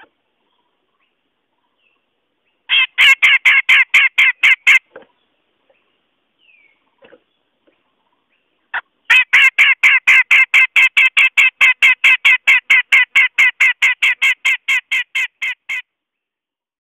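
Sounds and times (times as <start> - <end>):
bird calling rapidly: 0.0 - 7.3, 7.9 - 15.9.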